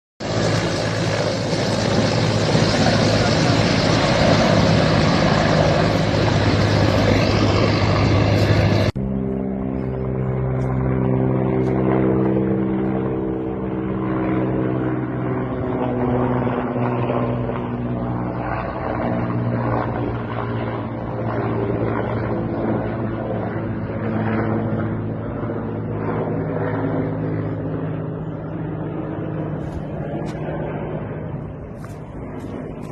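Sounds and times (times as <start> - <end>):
helicopter engine and rotor: 0.2 - 32.9.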